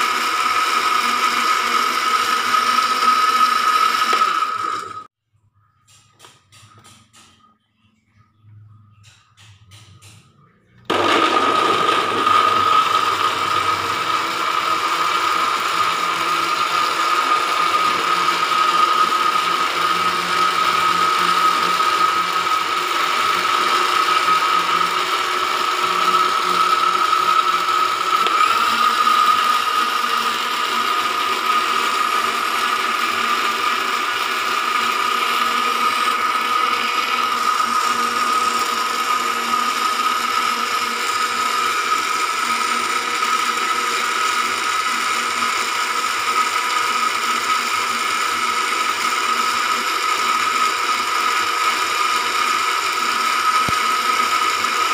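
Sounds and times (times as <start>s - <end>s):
kitchen blender running: 0.0s - 5.2s, 10.7s - 54.9s.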